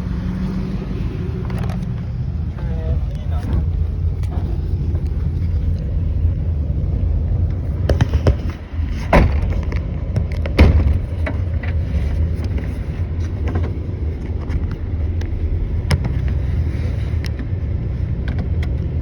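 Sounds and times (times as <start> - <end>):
freight cars rumbling past: 0.0 - 19.0.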